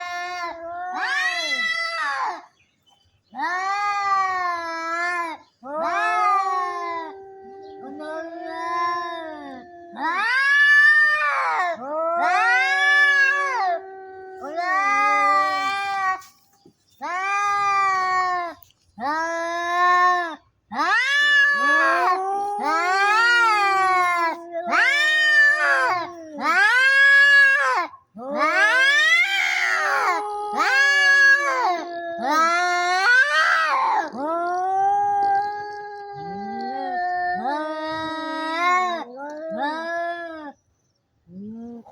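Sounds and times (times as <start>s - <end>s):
cat growling yowl: 0.0s - 2.4s, 3.4s - 16.2s, 17.0s - 40.6s
cat wailing calls: 0.0s - 2.5s, 3.3s - 16.3s, 17.0s - 40.6s.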